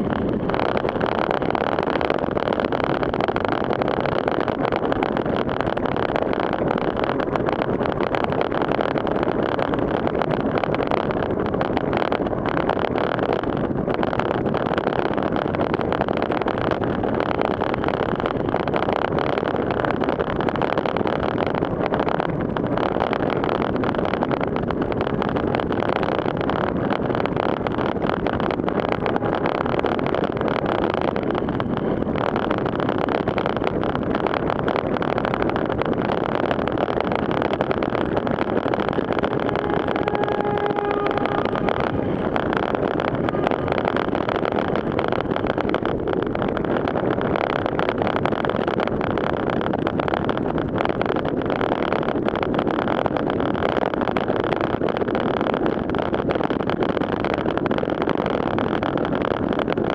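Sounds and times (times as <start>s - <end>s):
bike tyres through floodwater: 0.0s - 52.3s
wind noise on camera: 0.0s - 59.9s.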